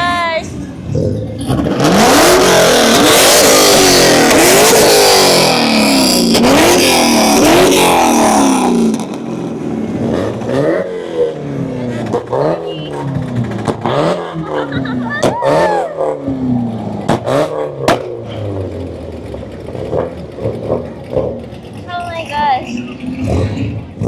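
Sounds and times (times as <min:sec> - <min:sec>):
car engine revving hard: 0:00.8 - 0:21.8, 0:22.6 - 0:24.0.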